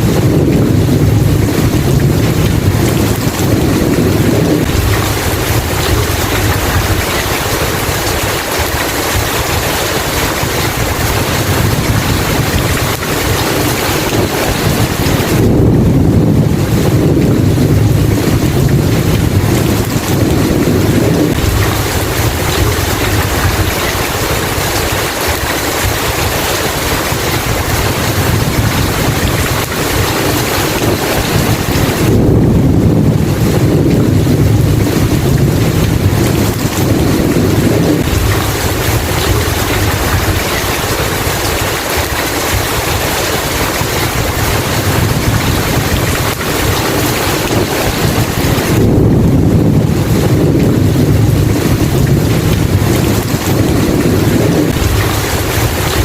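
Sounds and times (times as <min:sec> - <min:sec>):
heavy rain pouring: 0:00.0 - 0:56.0
thunder rumbling: 0:00.0 - 0:56.0.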